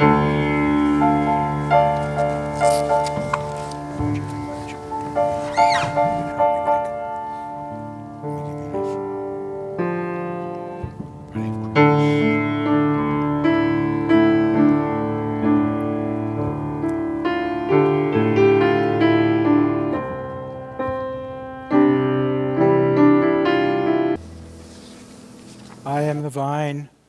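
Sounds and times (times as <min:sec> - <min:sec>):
piano playing slow chords: 0:00.0 - 0:26.0.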